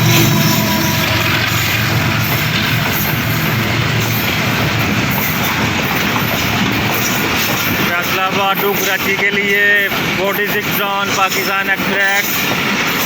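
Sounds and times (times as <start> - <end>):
train rumbling past on rails: 0.0 - 13.0.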